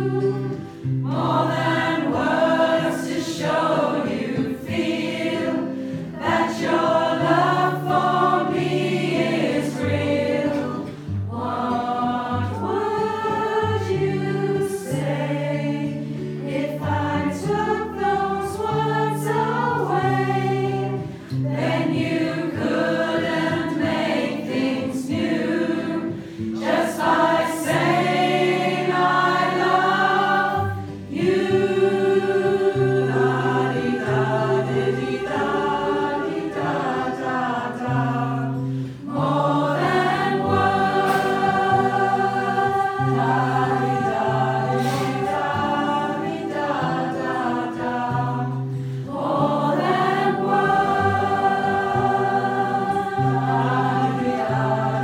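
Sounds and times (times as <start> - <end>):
choir singing in parts: 0.0 - 55.0.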